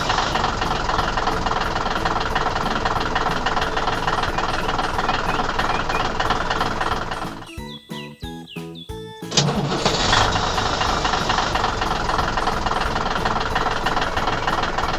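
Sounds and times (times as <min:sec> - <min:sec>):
machine rattling: 0:00.0 - 0:07.5, 0:09.3 - 0:14.9.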